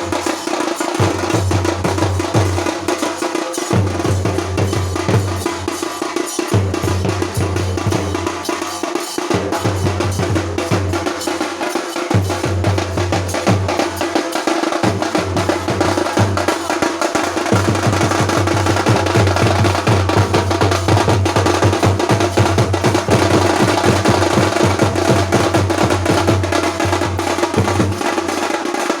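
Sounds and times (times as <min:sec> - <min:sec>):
drums beaten in fast rhythm: 0:00.0 - 0:29.0.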